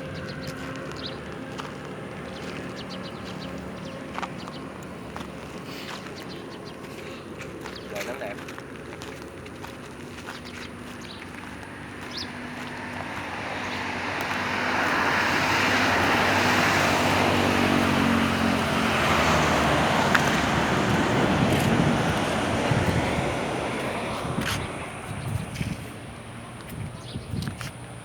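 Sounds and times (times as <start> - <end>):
vehicle passing on road: 0.0 - 28.0.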